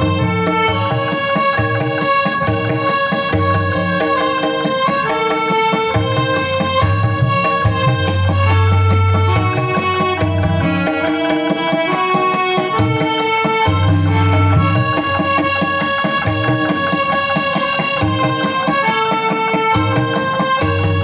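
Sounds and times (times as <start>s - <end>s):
harmonium melody: 0.0s - 21.0s
tabla rhythm: 0.0s - 21.0s.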